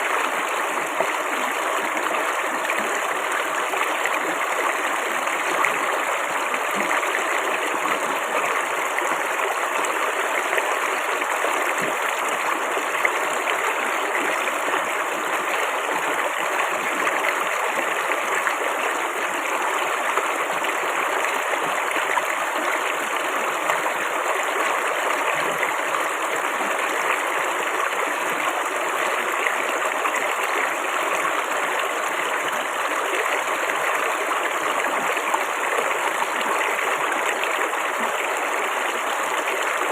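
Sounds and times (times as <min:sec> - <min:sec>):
flowing water babbling: 0:00.0 - 0:39.9.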